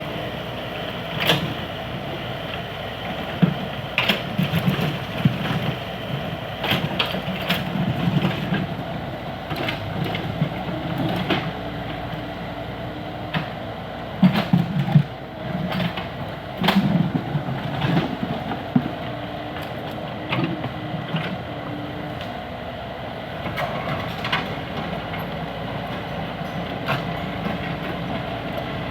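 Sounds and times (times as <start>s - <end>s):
diesel construction machine running: 0.0s - 28.9s.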